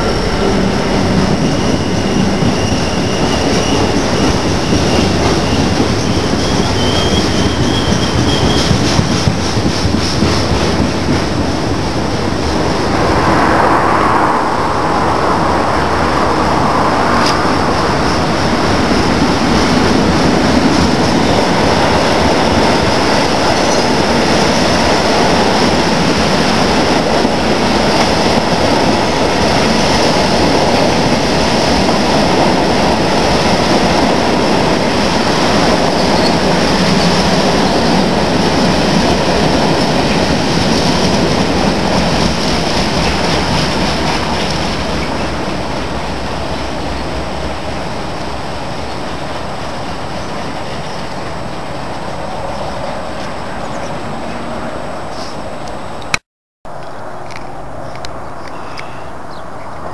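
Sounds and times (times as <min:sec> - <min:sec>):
freight train wheels rumbling: 0:00.0 - 0:59.8.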